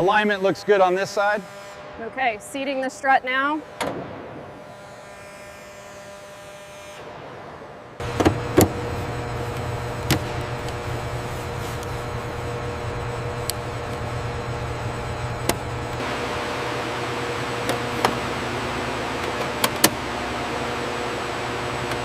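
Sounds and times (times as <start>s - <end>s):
workshop machinery humming: 0.0s - 22.0s.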